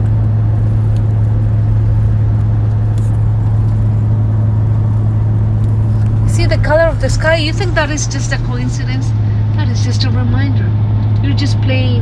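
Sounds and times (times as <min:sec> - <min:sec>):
constant noise: 0:00.0 - 0:12.0
steady low hum: 0:00.0 - 0:12.0.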